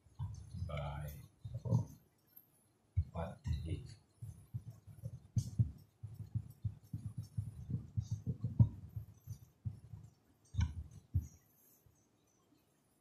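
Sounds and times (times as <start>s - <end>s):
marker writing on whiteboard: 0.0s - 13.0s.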